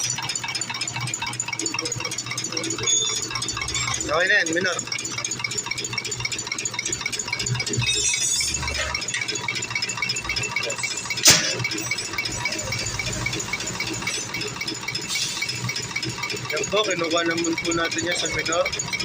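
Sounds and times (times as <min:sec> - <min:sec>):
machine ticking: 0:00.0 - 0:19.0.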